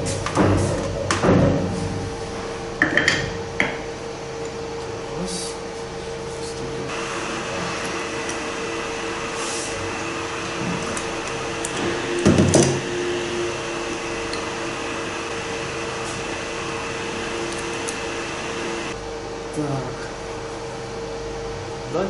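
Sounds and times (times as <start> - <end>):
workshop machinery hum: 0.0 - 22.0.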